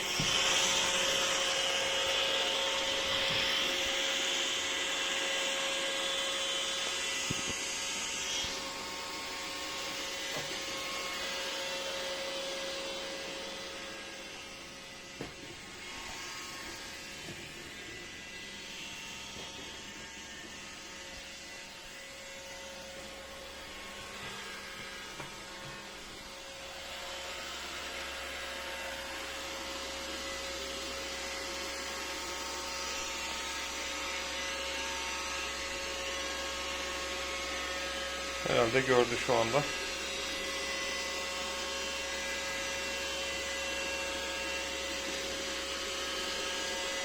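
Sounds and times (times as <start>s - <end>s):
robot vacuum whirring: 0.0s - 47.0s.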